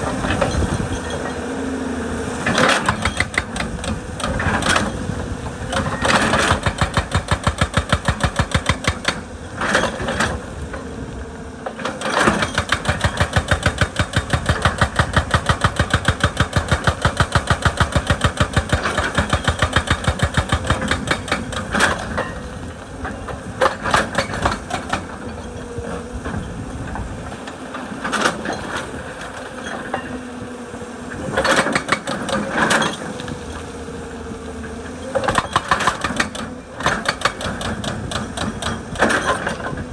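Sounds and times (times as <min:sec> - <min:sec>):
hydraulic breaker hammering rock: 0:00.0 - 0:01.6, 0:02.3 - 0:39.9
diesel engine running: 0:00.0 - 0:39.9.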